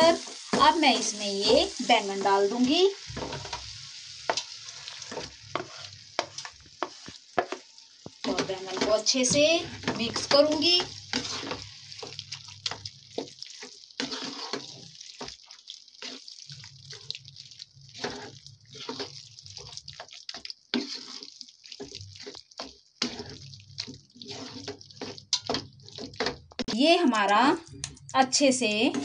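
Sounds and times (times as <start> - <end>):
spatula squelching and scraping pan: 0.0 - 26.9.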